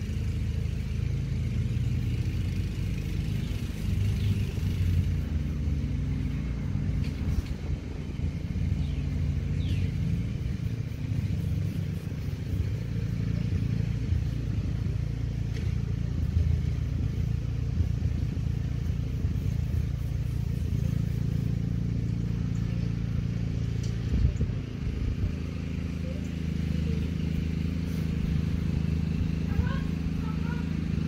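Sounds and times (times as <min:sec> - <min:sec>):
low motor hum: 0:00.0 - 0:31.0.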